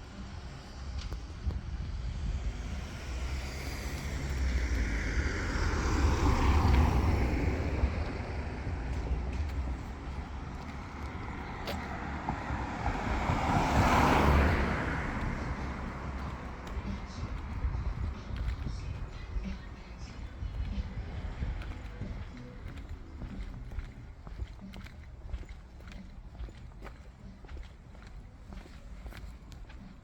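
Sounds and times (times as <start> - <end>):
cars passing: 0.0 - 30.0
low traffic rumble: 0.0 - 30.0.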